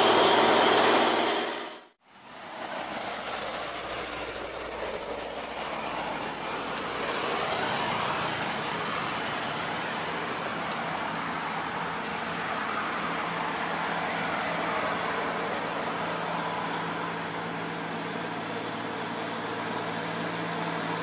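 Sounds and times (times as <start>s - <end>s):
high-pitched whine: 0.0s - 21.0s
road traffic passing: 0.0s - 21.0s
truck engine and tyres: 0.0s - 21.0s.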